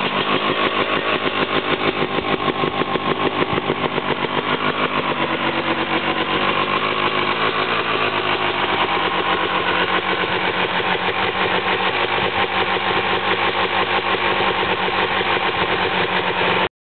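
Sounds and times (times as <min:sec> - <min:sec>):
two-stroke engine idling: 0:00.0 - 0:16.7.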